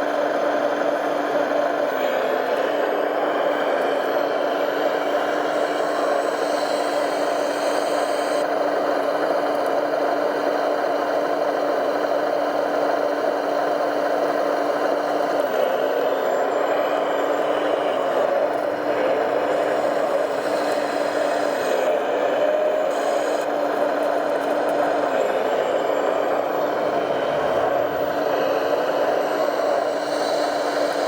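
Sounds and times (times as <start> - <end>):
toy truck motor whine: 0.0 - 31.0.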